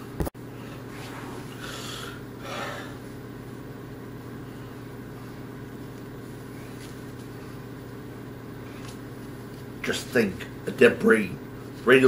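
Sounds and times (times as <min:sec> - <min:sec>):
low mechanical room hum: 0:00.0 - 0:12.0.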